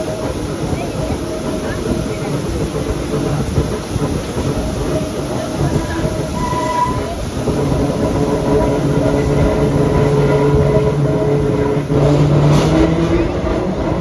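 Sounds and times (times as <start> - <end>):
train rattle: 0.0 - 14.0.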